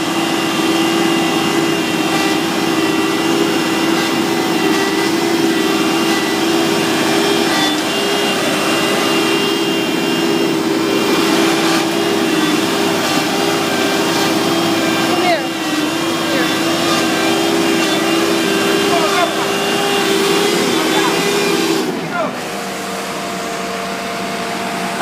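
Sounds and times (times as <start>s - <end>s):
paver engine running: 0.0s - 25.0s.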